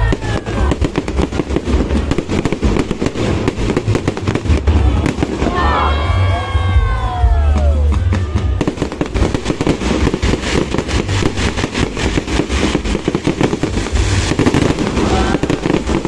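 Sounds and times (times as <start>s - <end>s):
fireworks bangs and crackling: 0.0s - 16.0s
low booming: 0.0s - 16.0s.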